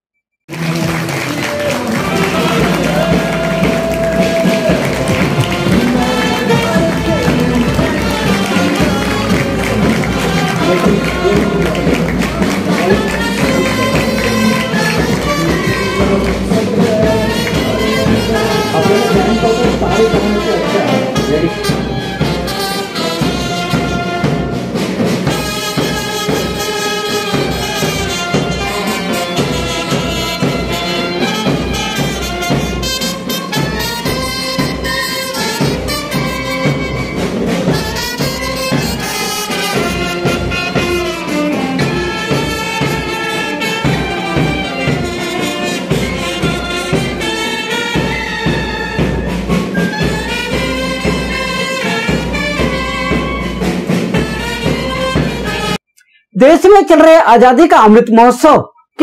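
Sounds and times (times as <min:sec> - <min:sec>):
bass drum beats: 0:00.5 - 0:55.8
snare drum beats: 0:00.5 - 0:55.8
brass band playing: 0:00.5 - 0:57.0.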